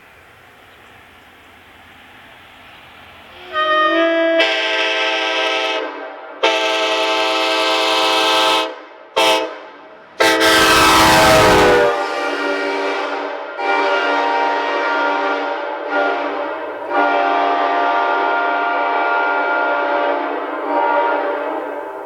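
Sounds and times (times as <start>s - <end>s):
rush of train passing: 0.0s - 22.0s
train air horn blowing: 3.3s - 22.0s.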